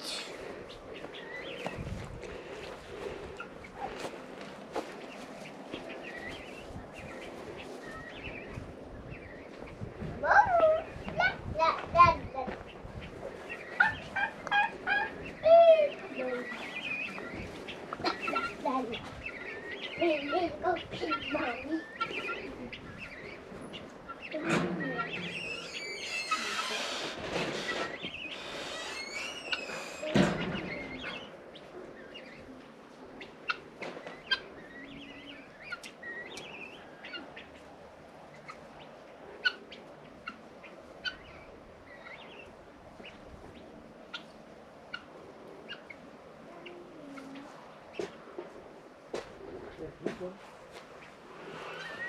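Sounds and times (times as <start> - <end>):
young birds chirping: 0.0 - 52.0.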